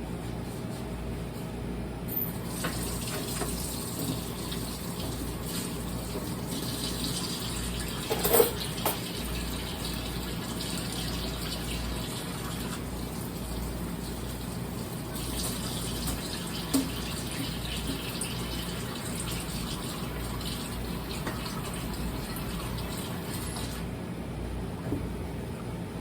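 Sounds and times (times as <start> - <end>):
tap water running into sink: 2.4 - 23.8.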